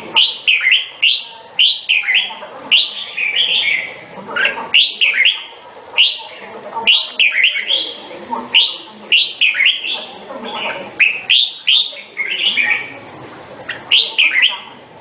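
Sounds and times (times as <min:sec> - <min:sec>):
bulbul singing: 0:00.0 - 0:14.9.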